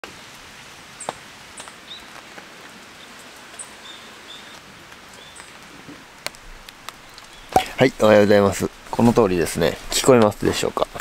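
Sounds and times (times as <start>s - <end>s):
heavy rain on tarp: 0.0s - 11.0s.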